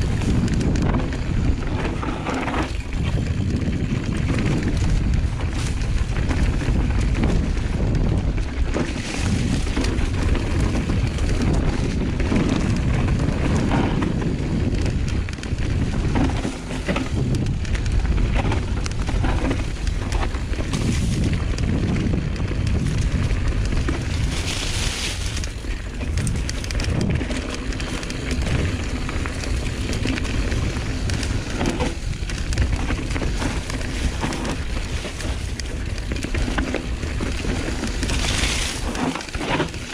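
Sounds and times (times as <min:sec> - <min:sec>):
bike tyres on dirt: 0:00.0 - 0:39.9
wind rumble on microphone: 0:00.0 - 0:39.9.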